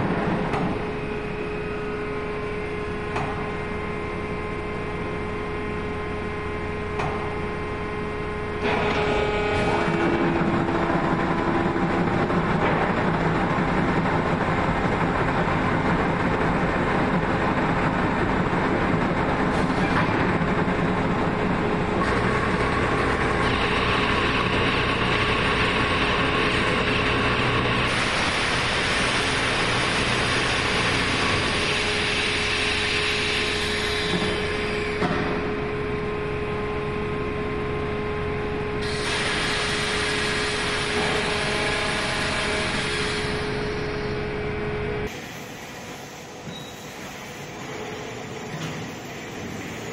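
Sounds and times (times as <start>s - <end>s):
steady whine: 0.0s - 19.4s, 20.4s - 49.9s
hydraulic press running: 0.0s - 49.9s.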